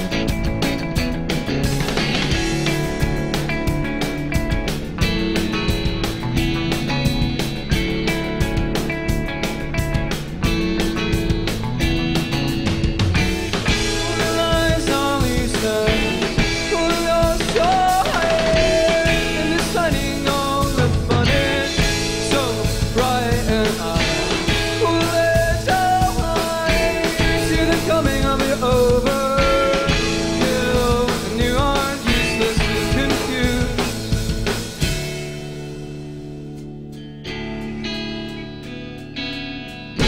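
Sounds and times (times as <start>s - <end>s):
drum kit beating: 0.0s - 40.0s
electric guitars playing: 0.0s - 40.0s.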